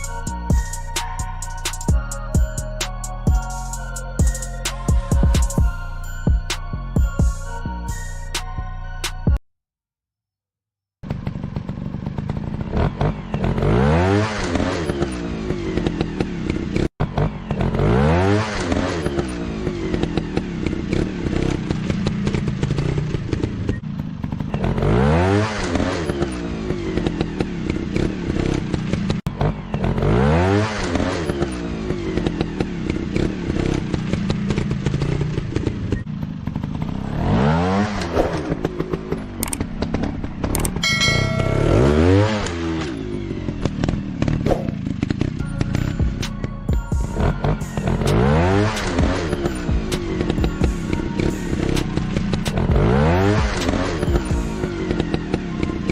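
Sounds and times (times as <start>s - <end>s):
motorcycle engines revving: 11.0s - 55.9s.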